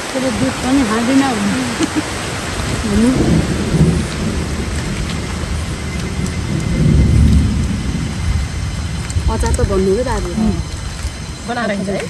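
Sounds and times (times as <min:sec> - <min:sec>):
low rumble of thunder: 0:00.0 - 0:12.0
steady rain pouring: 0:00.0 - 0:12.0.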